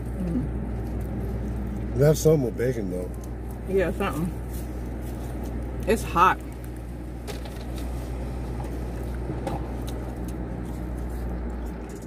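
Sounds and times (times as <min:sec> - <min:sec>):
car idling inside cabin: 0:00.0 - 0:12.0.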